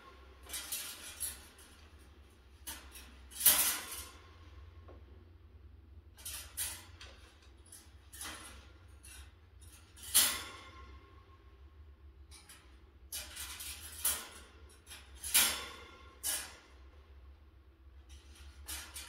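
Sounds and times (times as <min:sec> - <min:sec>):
metal wire cage rattling: 0:00.0 - 0:04.9, 0:05.9 - 0:19.0.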